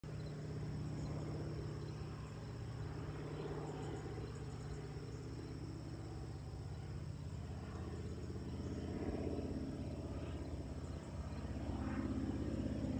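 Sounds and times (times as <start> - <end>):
biplane engine droning overhead: 0.0 - 12.9
crickets trilling: 0.1 - 12.9.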